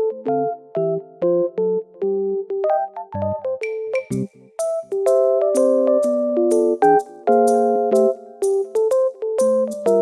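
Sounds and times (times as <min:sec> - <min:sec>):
light keyboard melody: 0:00.0 - 0:10.0.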